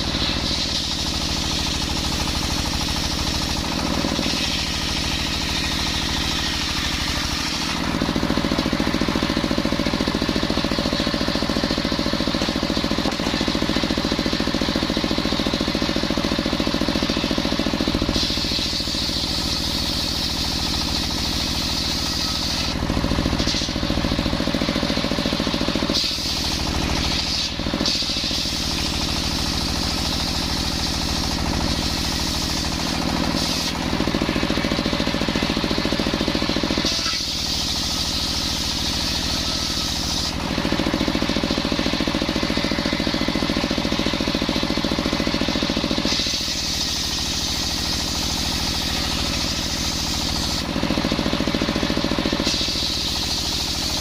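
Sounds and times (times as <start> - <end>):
circular saw cutting timber: 0.0 - 54.0.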